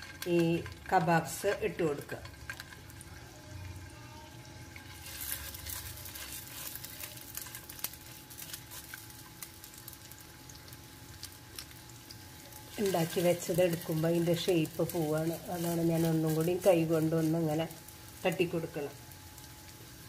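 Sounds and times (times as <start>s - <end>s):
kebabs sizzling in oil: 0.0s - 20.0s.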